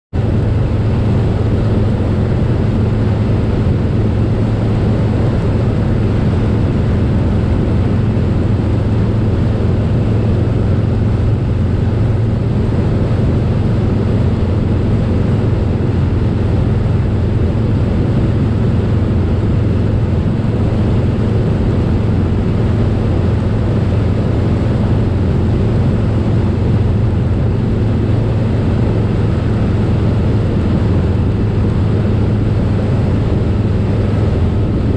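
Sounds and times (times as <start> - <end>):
motorcycle engine cruising: 0.1 - 34.9
road noise: 0.1 - 34.9.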